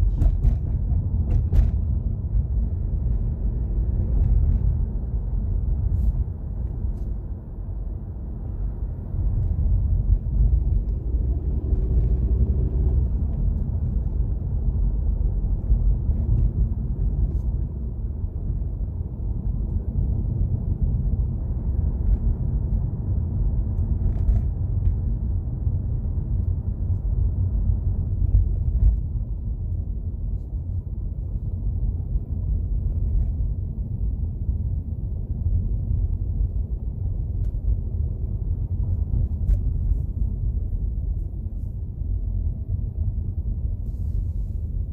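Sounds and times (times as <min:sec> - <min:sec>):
car engine low rumble: 0:00.0 - 0:44.9.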